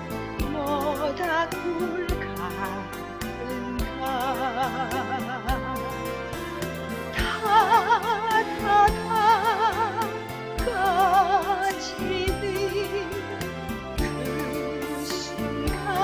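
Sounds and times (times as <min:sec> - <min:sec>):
bass line: 0:00.0 - 0:16.0
slow ballad melody: 0:00.0 - 0:16.0.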